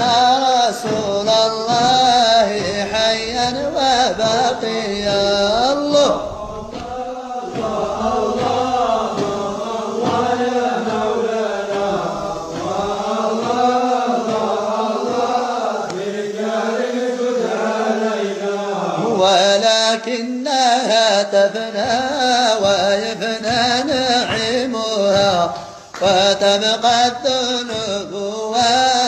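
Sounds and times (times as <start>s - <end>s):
held vocal drone: 0.0s - 29.0s
wordless vocal chanting: 0.0s - 29.0s.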